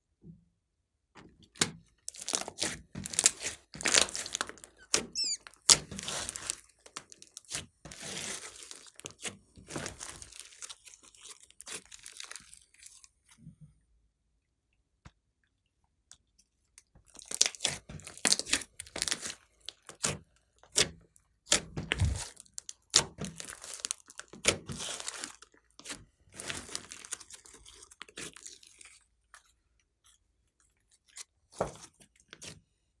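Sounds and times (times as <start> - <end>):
slime squelching: 2.0 - 13.4, 15.2 - 32.6.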